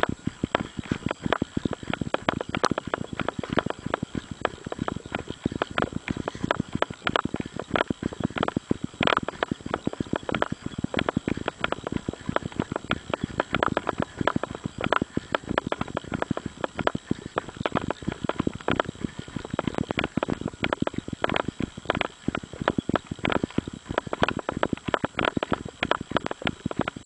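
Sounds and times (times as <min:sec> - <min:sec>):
footsteps on gravel road: 0:00.0 - 0:27.0
runner breathing: 0:00.0 - 0:27.0.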